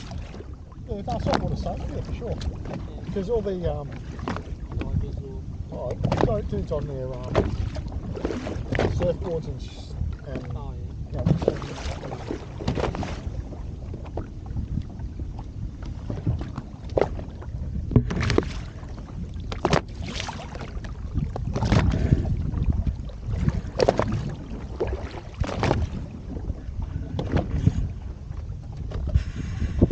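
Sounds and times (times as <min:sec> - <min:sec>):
boat hull hitting waves: 0:00.0 - 0:29.9
wind buffeting microphone: 0:00.0 - 0:29.9.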